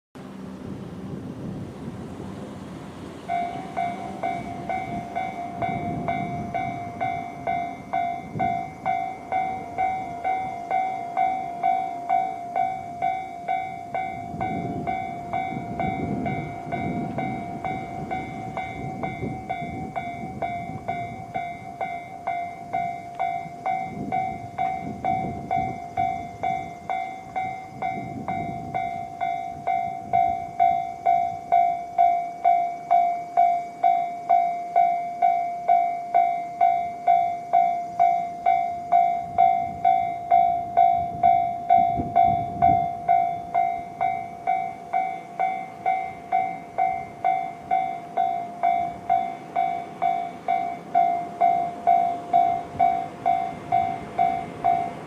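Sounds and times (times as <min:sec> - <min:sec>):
passing vehicles rumbling: 0:00.2 - 0:33.8, 0:36.4 - 0:55.0
level crossing warning bell: 0:03.1 - 0:55.0.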